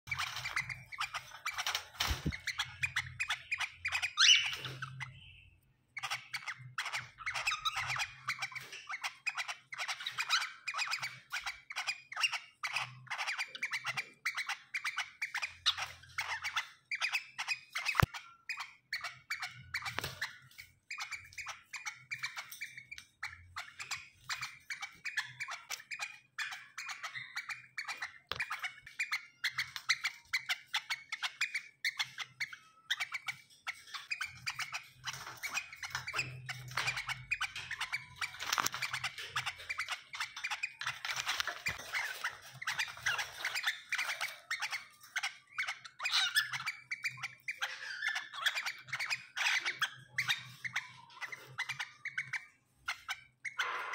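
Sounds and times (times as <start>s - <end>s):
cockatiels chirping and squeaking: 0.0s - 53.9s.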